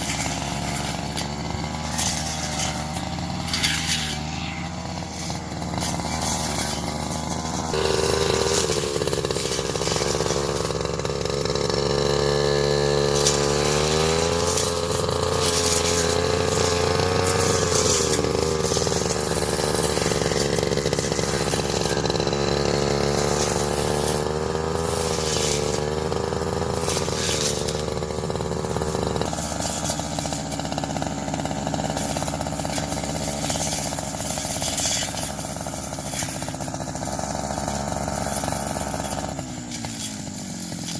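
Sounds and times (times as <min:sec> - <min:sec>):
grass cutter engine running: 0:00.0 - 0:40.9.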